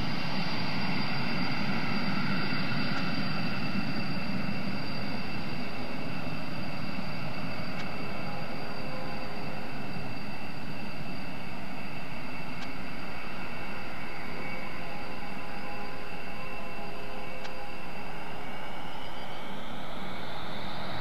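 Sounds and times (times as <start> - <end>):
jet engines rushing with whine: 0.0 - 21.0.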